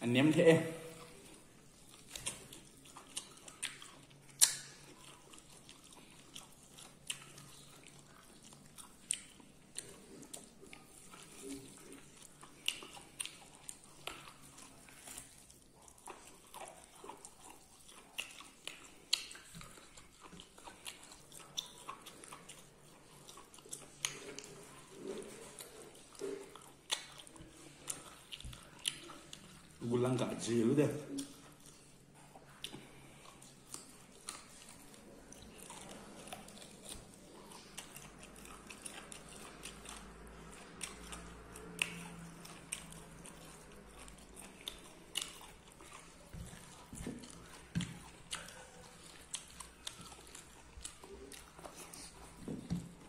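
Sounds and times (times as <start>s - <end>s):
person chewing food: 0.0s - 53.0s
mouth clicks and smacks: 2.0s - 15.3s, 16.0s - 30.3s, 31.0s - 53.0s.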